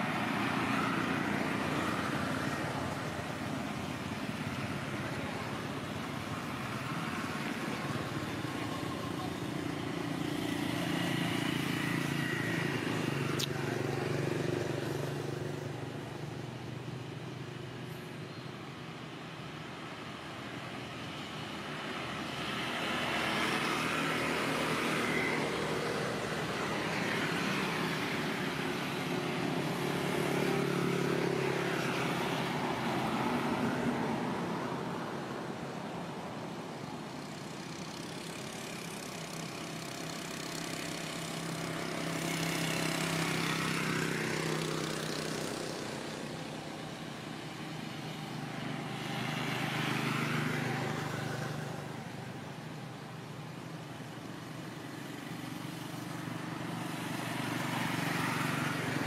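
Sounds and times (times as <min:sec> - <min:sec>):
motor vehicles passing by: 0:00.0 - 0:59.0.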